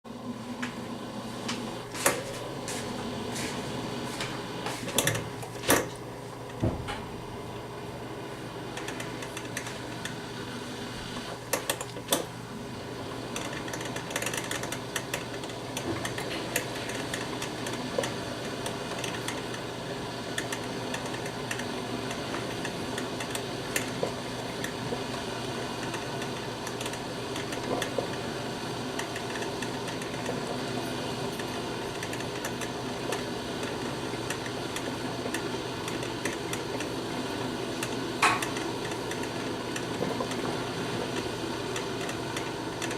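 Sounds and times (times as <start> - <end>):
coffee maker hissing and humming: 0.0 - 42.9.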